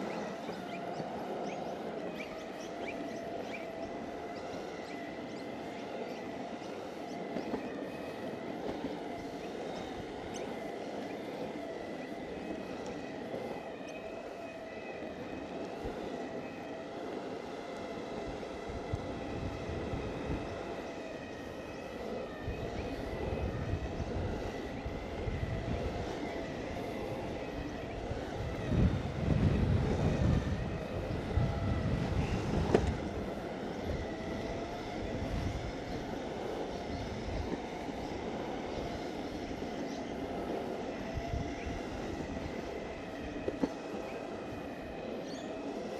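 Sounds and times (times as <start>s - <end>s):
electric motor whine: 0.0s - 45.9s
wheels rolling on pavement: 0.0s - 45.9s.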